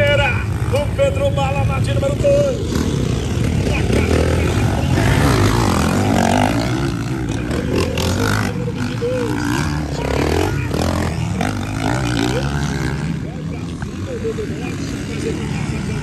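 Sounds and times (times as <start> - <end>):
motocross bikes revving past: 0.0 - 16.0.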